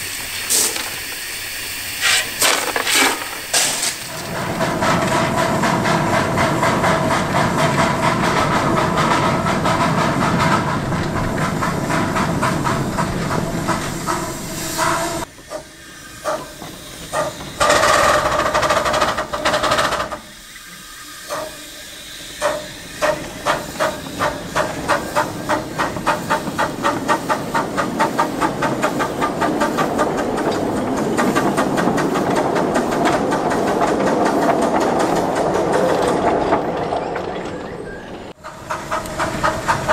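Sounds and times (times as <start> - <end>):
loud hiss of steam: 0.0 - 34.4
steam locomotive exhaust chuffs: 0.0 - 37.0, 37.6 - 39.9.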